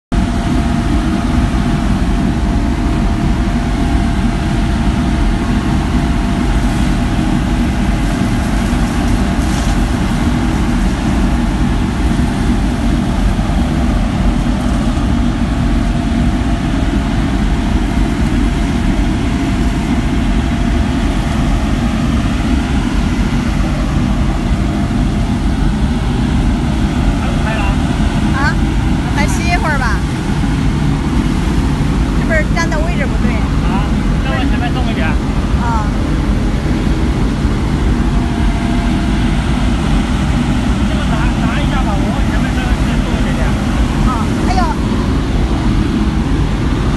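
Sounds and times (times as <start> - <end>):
vacuum suction hose running: 0.1 - 46.9.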